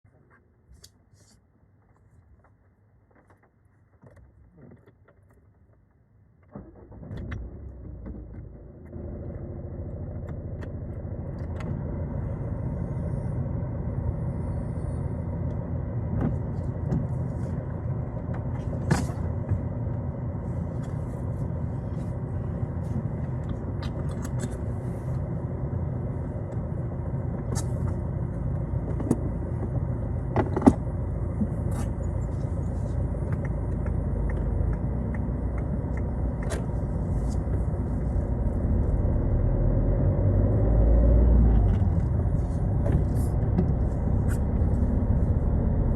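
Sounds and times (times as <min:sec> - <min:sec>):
diesel engine starting and running: 0:06.3 - 0:45.9.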